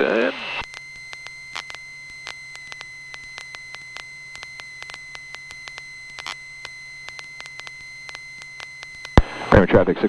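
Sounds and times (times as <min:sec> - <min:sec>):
high-pitched electrical tone: 0:00.0 - 0:10.0
low electrical hum: 0:00.0 - 0:10.0
radio interference clicks and crackles: 0:00.0 - 0:10.0.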